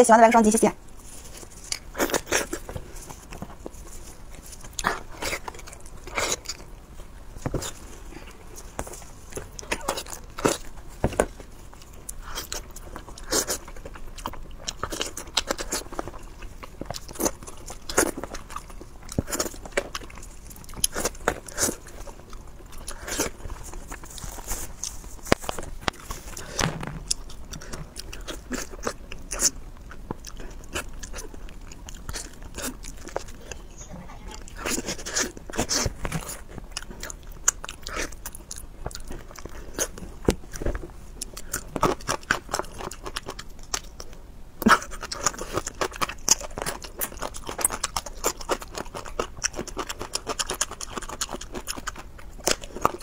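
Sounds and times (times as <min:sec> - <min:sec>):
person chewing and crunching food: 0:00.8 - 0:53.0.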